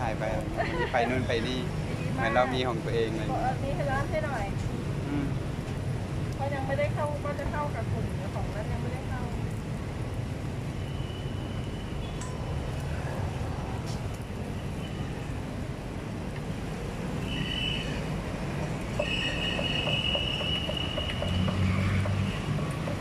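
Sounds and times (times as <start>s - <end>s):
low rumble of traffic: 0.0s - 23.0s.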